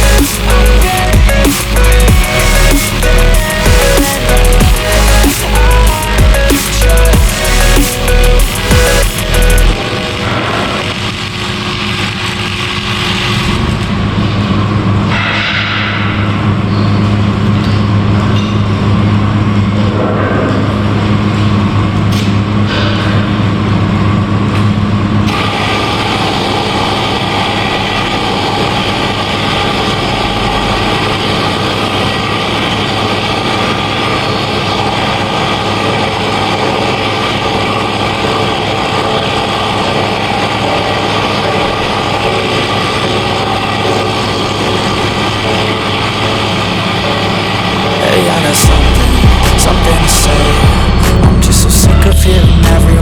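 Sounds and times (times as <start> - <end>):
machinery humming: 0.0 - 53.0.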